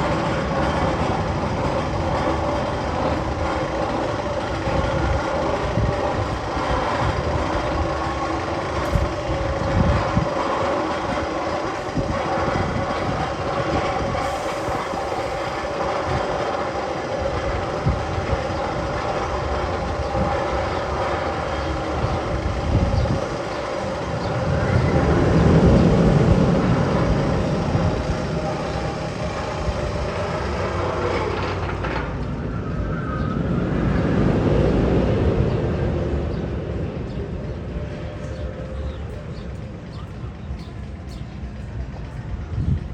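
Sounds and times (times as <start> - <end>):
roller coaster rumbling on track: 0.0 - 42.9.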